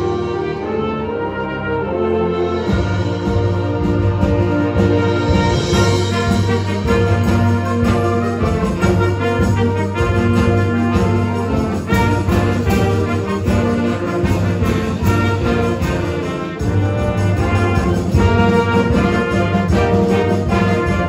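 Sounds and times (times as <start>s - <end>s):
concert band playing: 0.0s - 21.0s.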